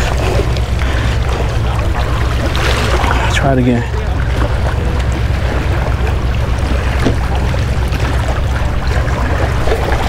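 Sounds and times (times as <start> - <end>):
water washing against rocks: 0.0 - 10.0.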